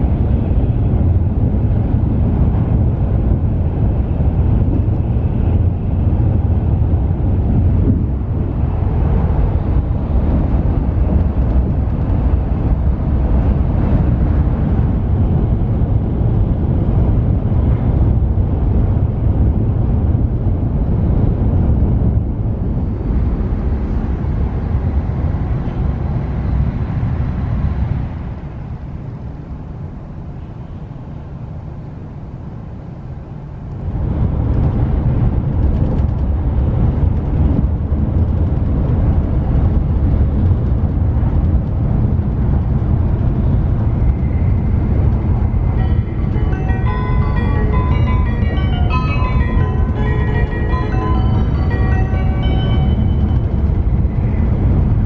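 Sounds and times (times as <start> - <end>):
train rumble inside cabin: 0.0 - 55.0.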